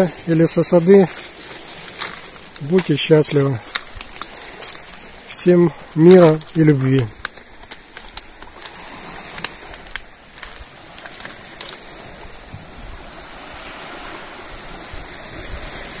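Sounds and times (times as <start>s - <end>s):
waves washing on pebbles: 0.0s - 16.0s.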